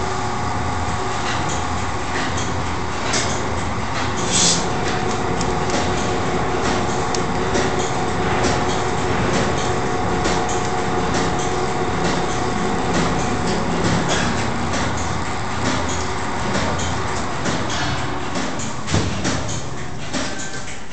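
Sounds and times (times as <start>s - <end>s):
mixing mill hum and rumble: 0.0s - 20.9s.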